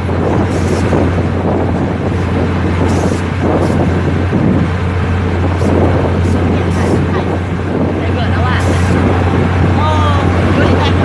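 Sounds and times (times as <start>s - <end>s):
constant low hum: 0.0s - 11.0s
moving vehicle: 0.0s - 11.0s
wind buffeting microphone: 0.0s - 11.0s.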